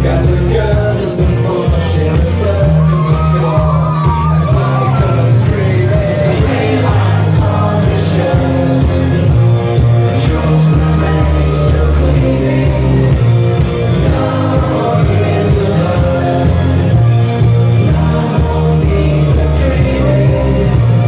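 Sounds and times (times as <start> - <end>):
loud pop music with singing: 0.0 - 21.0.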